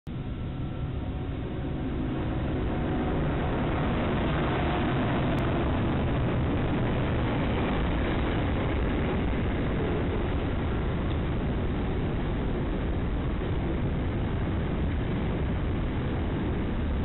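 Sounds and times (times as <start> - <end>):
freight locomotive engines: 0.1 - 17.0
train rumbling on rails: 0.1 - 17.0.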